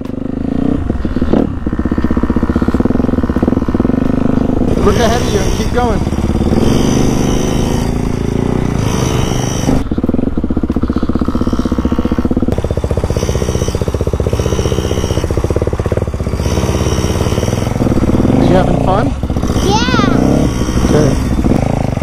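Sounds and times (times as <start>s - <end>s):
dirt bike engines running: 0.0s - 22.0s.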